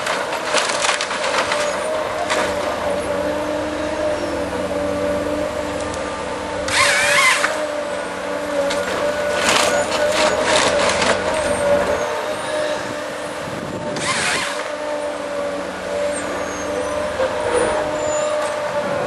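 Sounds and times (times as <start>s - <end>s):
forestry machine engine whine: 0.0s - 19.0s.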